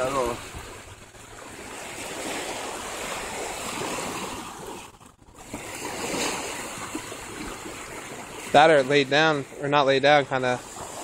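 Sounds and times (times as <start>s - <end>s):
small waves washing on shore: 0.0s - 11.0s.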